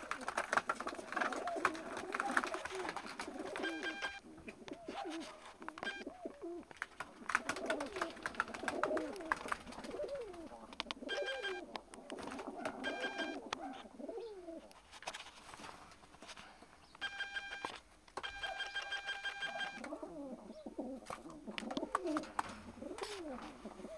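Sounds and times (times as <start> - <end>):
pigeons cooing: 0.0 - 14.7, 18.2 - 23.9.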